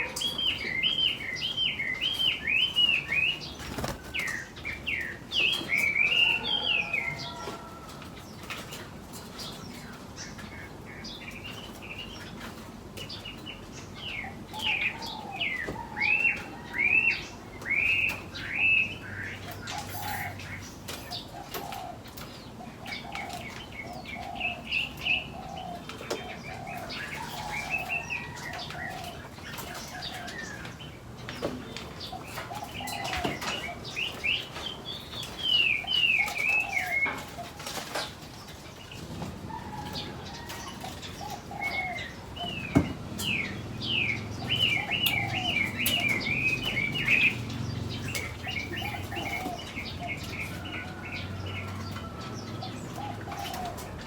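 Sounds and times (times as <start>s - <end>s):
birds chirping and whistling: 0.0s - 54.0s
repeated lower bird calls: 0.0s - 54.0s.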